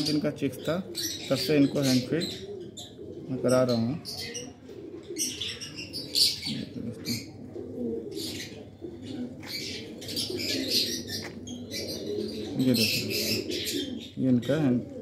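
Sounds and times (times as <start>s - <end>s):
bird chick raspy begging calls: 0.0s - 15.0s
pigeons cooing: 0.0s - 15.0s.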